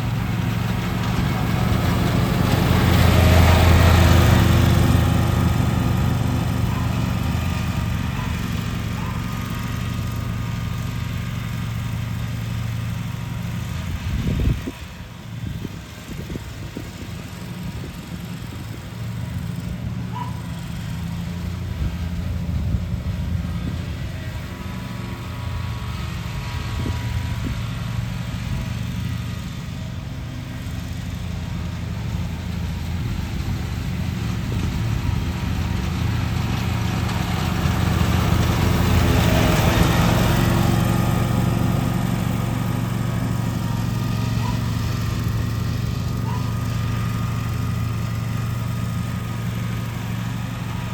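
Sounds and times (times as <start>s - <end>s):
lawn mower cutting grass: 0.0s - 50.9s.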